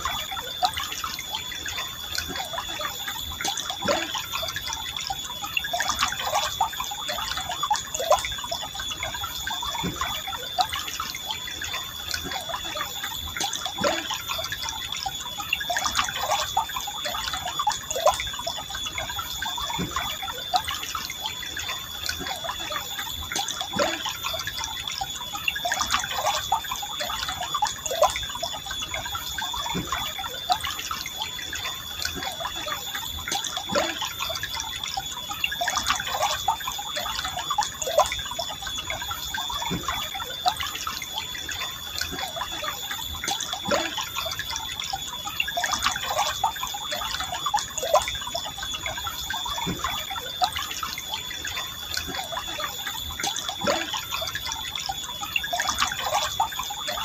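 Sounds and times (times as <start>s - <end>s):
river water gurgling: 0.0s - 57.0s
water plops and drips: 0.0s - 57.0s.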